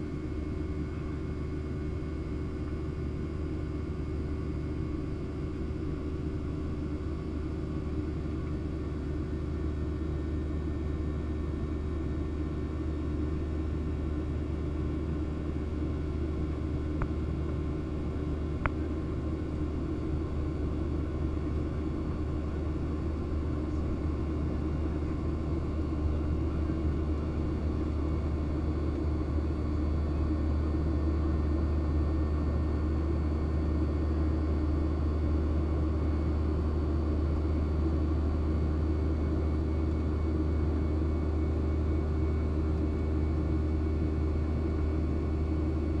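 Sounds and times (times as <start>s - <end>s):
airplane cabin drone: 0.0s - 46.0s.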